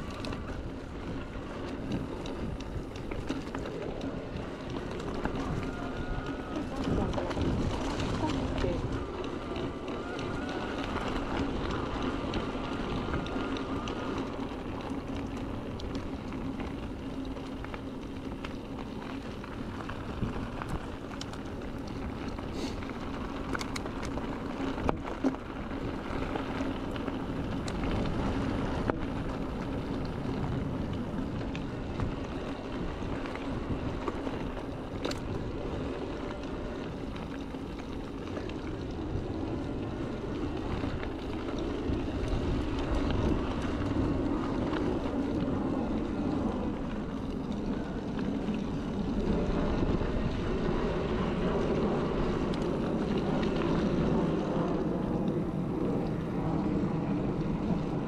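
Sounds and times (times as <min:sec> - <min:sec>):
bike tyres on gravel: 0:00.0 - 0:58.0
low motor hum: 0:00.0 - 0:58.0.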